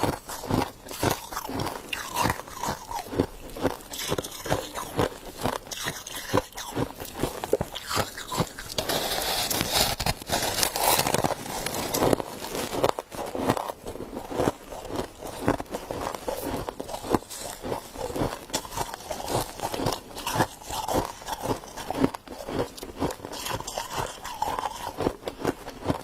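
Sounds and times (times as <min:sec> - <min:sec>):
frost being chewed crunching: 0:00.0 - 0:26.0.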